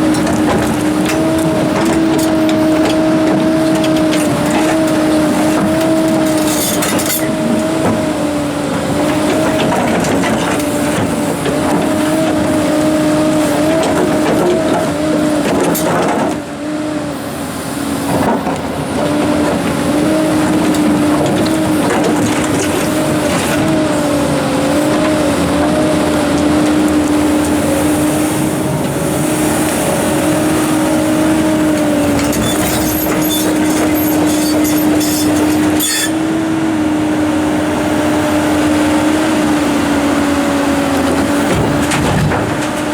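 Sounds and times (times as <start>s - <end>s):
excavator engine and hydraulics whine: 0.0s - 42.9s.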